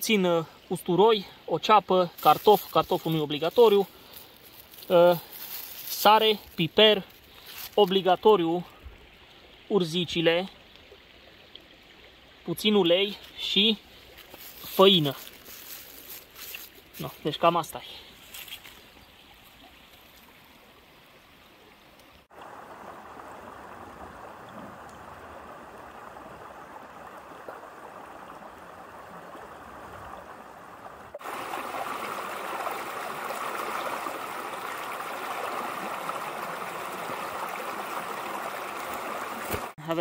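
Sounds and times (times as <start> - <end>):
creek splashing over stones: 0.0 - 40.0.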